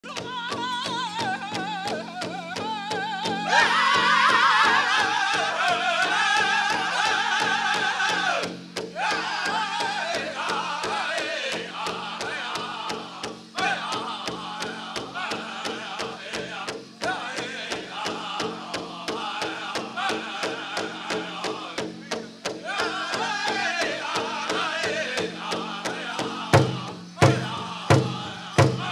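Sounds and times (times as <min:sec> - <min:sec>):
large drum fast beat: 0:00.0 - 0:28.9
voices singing in unison: 0:00.1 - 0:28.9.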